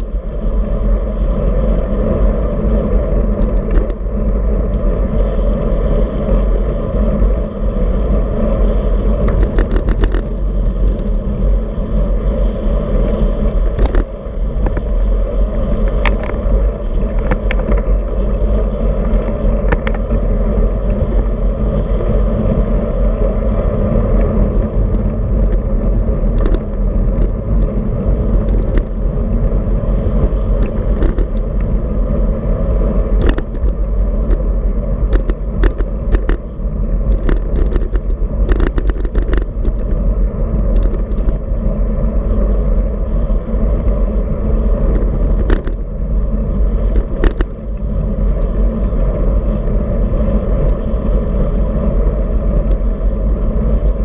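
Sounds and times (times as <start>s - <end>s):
bike clicks and rattles: 0.0s - 54.0s
tyre noise on asphalt: 0.0s - 54.0s
wind noise on microphone: 0.0s - 54.0s.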